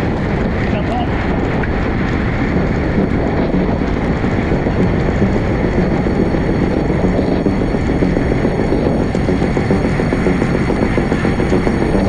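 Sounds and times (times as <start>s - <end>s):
bicycle tyre noise: 0.0s - 12.0s
wind rushing: 0.0s - 12.0s.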